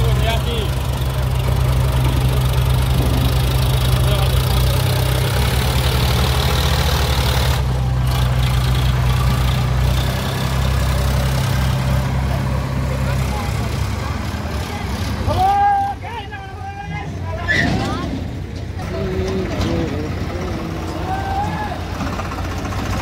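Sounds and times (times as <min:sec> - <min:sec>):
tractor diesel engine running: 0:00.0 - 0:17.4, 0:18.1 - 0:23.0.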